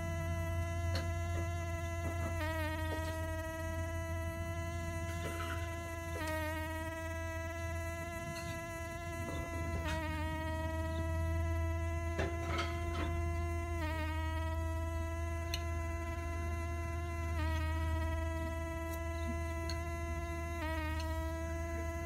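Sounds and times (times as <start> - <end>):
bee wings buzzing: 0.0 - 22.0.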